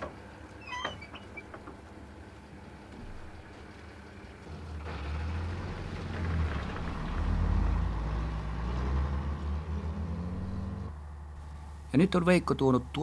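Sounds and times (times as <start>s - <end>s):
truck engine pulling away: 0.0s - 13.0s.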